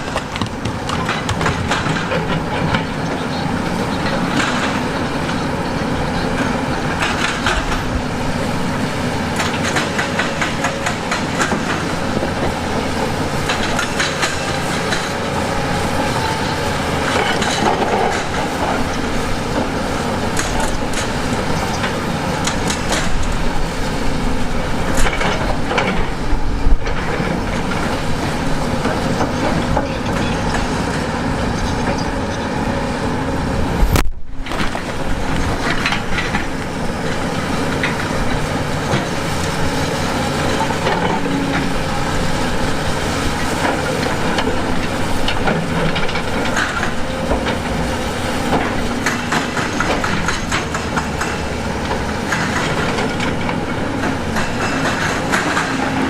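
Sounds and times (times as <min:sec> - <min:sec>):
heavy machinery running: 0:00.0 - 0:56.0
steel and rock clanking: 0:00.0 - 0:56.0.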